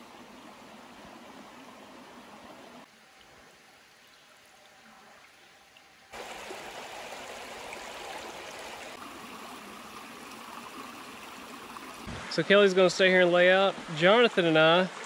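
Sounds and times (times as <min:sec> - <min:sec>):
creek water running over rock: 0:00.0 - 0:15.0.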